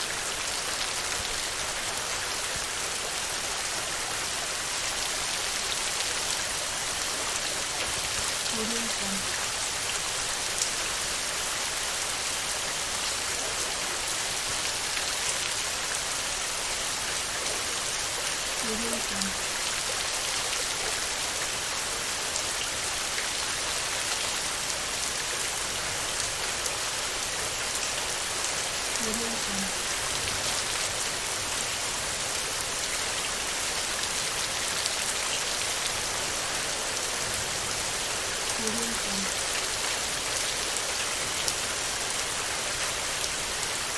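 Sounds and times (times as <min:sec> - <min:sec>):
heavy rain on a tin roof: 0:00.0 - 0:43.9.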